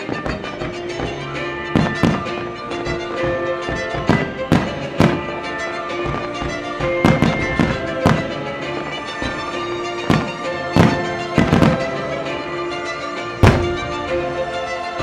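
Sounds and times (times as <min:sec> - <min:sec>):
firework shells bursting: 0:00.0 - 0:12.4, 0:13.4 - 0:14.1
music playing: 0:00.0 - 0:15.0.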